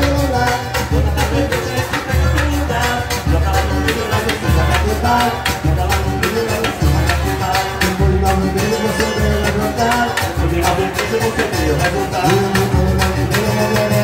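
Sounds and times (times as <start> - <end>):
cavaquinho strumming: 0.0 - 14.0
pandeiro and hand drums: 0.0 - 14.0.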